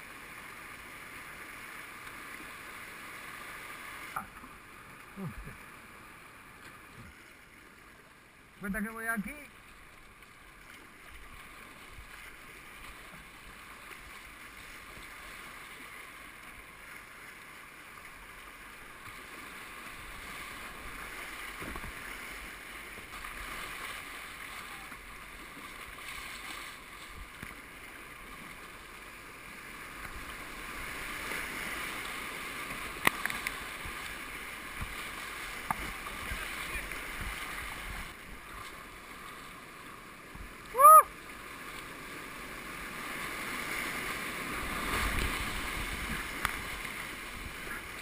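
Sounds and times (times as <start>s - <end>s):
whitewater rushing: 8.7s - 48.0s.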